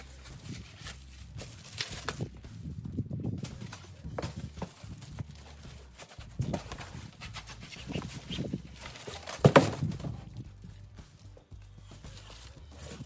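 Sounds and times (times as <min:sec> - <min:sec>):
cardboard and plastic rustling: 0:00.0 - 0:13.0.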